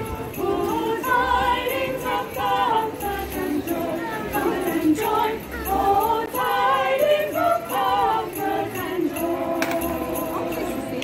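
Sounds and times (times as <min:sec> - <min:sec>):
jingle bells shaken: 0:00.0 - 0:11.0
women singing in harmony: 0:00.0 - 0:11.0.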